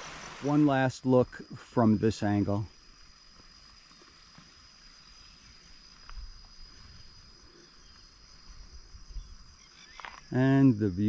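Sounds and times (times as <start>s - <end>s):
insects shrilling: 0.0s - 10.7s.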